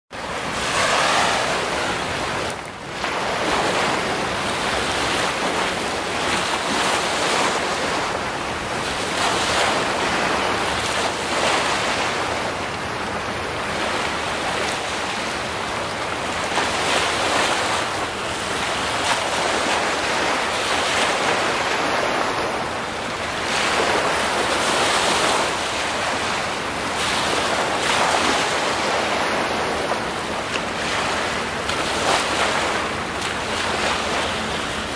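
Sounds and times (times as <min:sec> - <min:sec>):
waves washing onto shore: 0:00.1 - 0:34.9.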